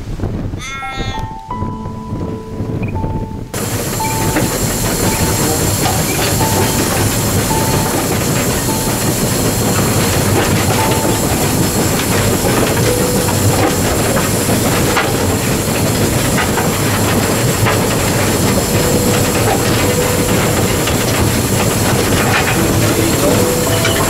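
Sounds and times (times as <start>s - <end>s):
wheels clattering on rails: 2.1s - 24.0s
steam hissing: 3.6s - 24.0s.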